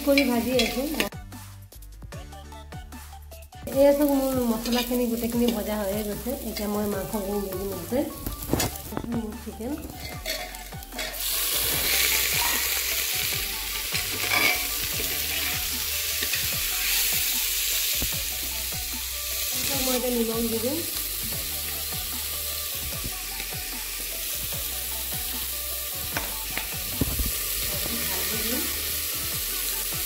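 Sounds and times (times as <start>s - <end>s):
chicken sizzling in hot oil: 0.0s - 1.1s, 3.7s - 9.0s, 9.7s - 30.0s.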